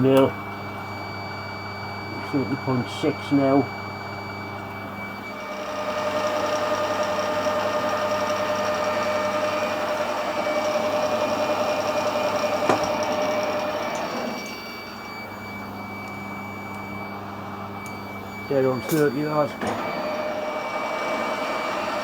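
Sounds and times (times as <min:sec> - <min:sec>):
lathe motor hum: 0:00.0 - 0:22.0
metal cutting whine: 0:00.0 - 0:22.0.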